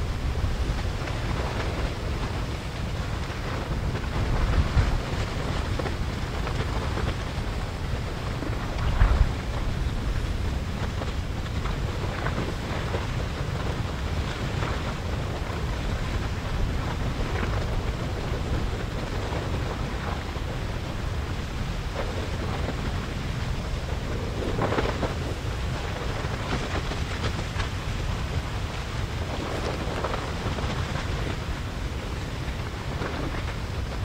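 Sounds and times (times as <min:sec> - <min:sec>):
lava hissing: 0:00.0 - 0:34.0
lava rumbling and crackling: 0:00.0 - 0:34.0.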